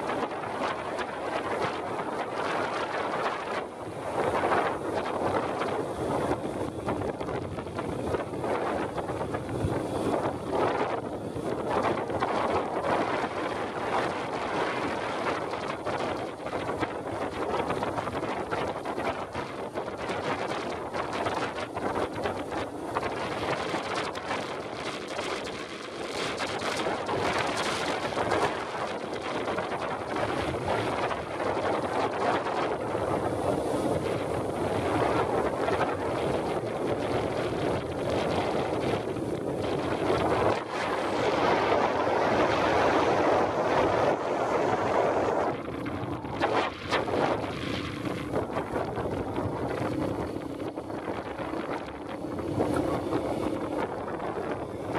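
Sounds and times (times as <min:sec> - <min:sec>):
tyres on sandy dirt track: 0:00.0 - 0:54.9
wind rushing over microphone: 0:00.0 - 0:54.9.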